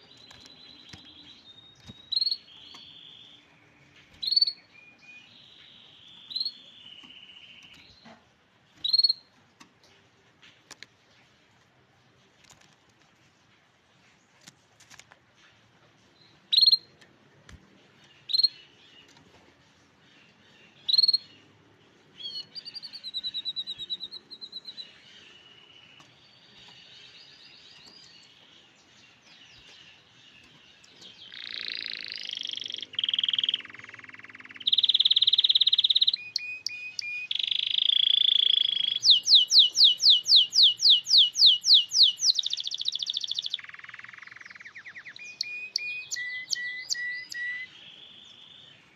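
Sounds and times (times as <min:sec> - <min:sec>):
canary singing trills: 0:00.0 - 0:09.4, 0:16.2 - 0:17.0, 0:17.9 - 0:19.2, 0:19.8 - 0:48.9.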